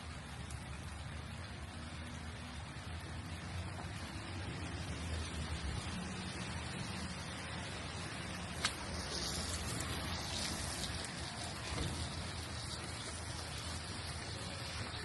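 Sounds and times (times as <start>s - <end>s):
rain falling on street: 0.0s - 15.0s.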